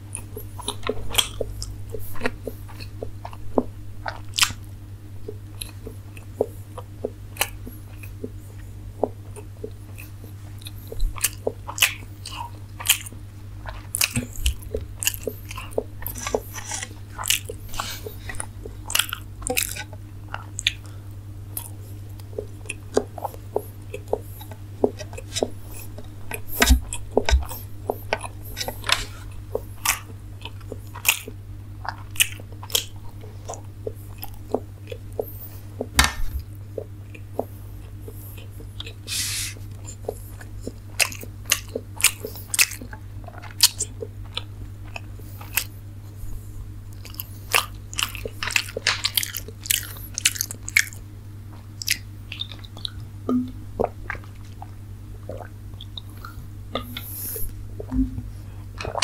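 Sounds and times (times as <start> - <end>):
steady low hum: 0.0 - 59.0
wet chewing and smacking: 0.0 - 59.0.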